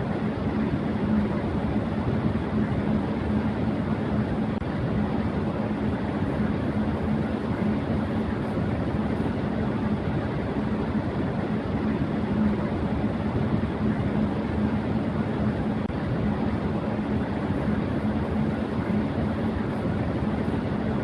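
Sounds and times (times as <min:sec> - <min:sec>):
fan motor low hum: 0:00.0 - 0:21.0.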